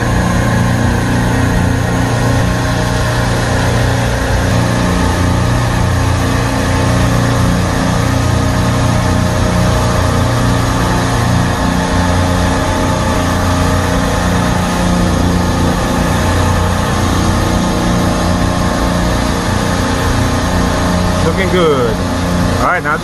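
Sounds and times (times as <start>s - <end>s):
refrigeration compressor humming: 0.0s - 23.0s.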